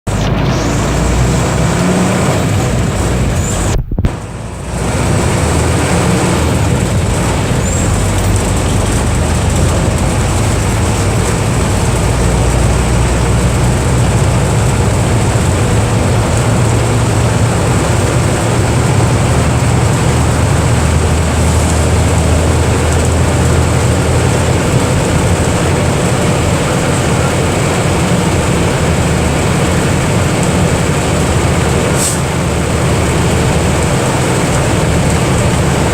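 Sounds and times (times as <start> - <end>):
bus diesel engine running: 0.0 - 35.9.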